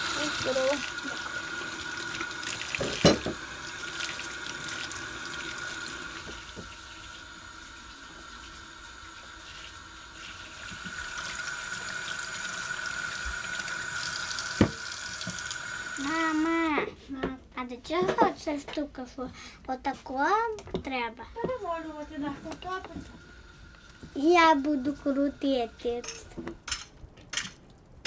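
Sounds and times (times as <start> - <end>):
tap water running into sink: 0.0 - 16.8, 20.7 - 27.8.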